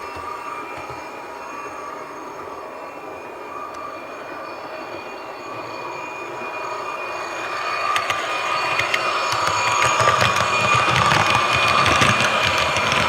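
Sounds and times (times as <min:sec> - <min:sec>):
model train electric whine: 0:00.0 - 0:13.0.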